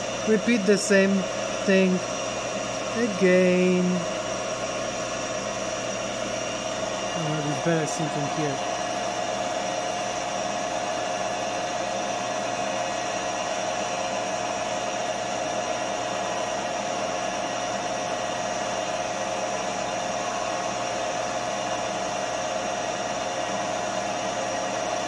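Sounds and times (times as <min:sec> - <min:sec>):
milling machine spindle whine: 0:00.0 - 0:25.0
motor hum: 0:00.0 - 0:25.0.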